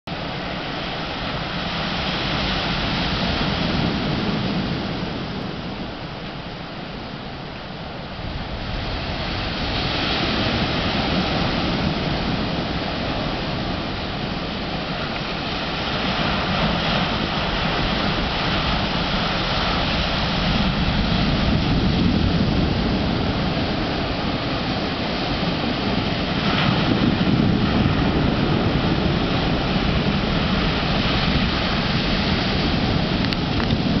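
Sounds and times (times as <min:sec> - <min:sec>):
heavy surf breaking on shore: 0:00.1 - 0:34.0.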